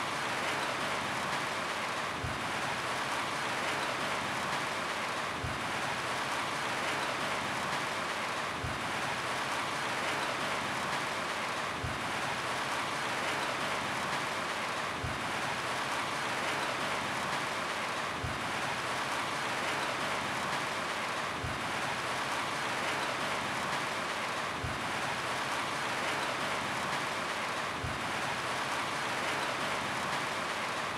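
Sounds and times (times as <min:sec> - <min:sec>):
rain drumming on roof: 0:00.0 - 0:30.9.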